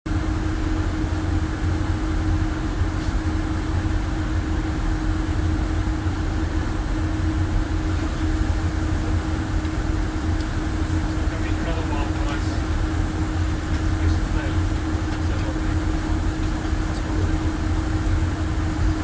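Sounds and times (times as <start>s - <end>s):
ship machinery rumble and hum: 0.1s - 19.0s
faint high whine: 3.0s - 19.0s.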